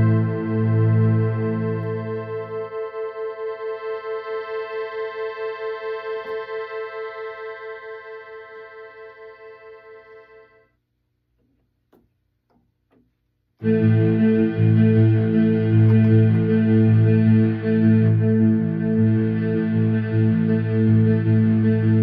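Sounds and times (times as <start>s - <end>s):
pulsing synthesizer chord: 0.0s - 10.7s, 13.6s - 22.0s.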